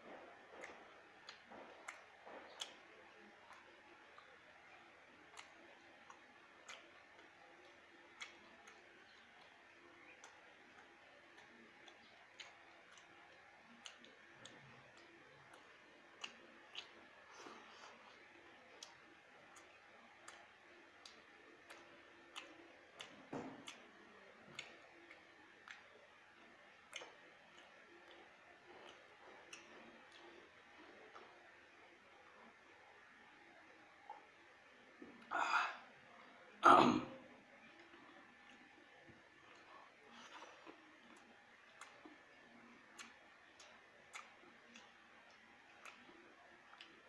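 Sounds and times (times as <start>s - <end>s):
person chewing with mouth clicks: 0.1s - 33.2s, 39.4s - 47.0s.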